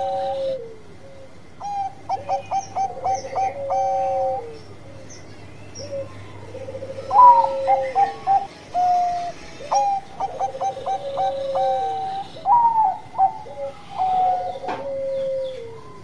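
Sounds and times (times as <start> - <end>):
dove cooing song: 0.0 - 16.0.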